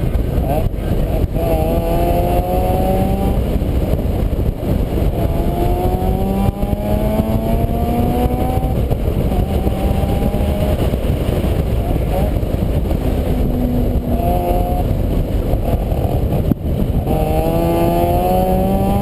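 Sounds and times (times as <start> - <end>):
steady low rumble: 0.0 - 19.0
vehicle engine accelerating: 0.0 - 19.0.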